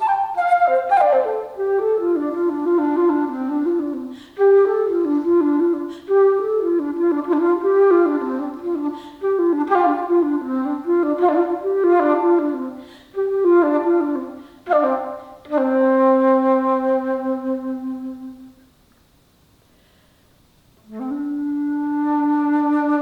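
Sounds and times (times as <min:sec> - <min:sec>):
alto flute playing: 0:00.0 - 0:18.7, 0:20.8 - 0:23.0.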